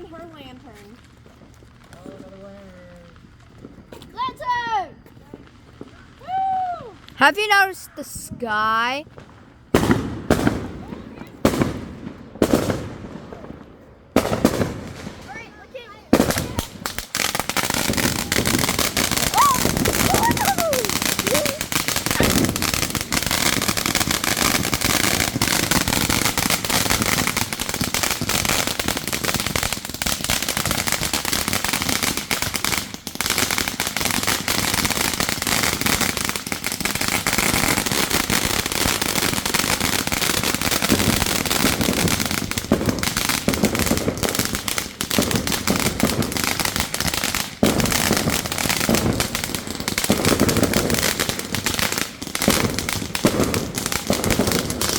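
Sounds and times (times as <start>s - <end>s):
fireworks crackling and popping: 0.0s - 54.9s.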